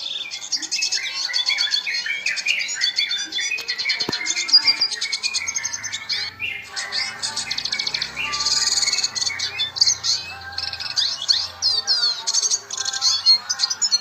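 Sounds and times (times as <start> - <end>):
bird twittering song: 0.0 - 14.0.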